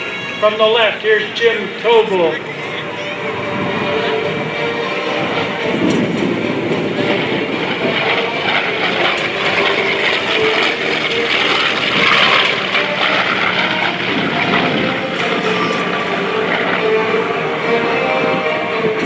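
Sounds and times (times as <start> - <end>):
radial piston engine plane flyby: 0.0 - 19.0.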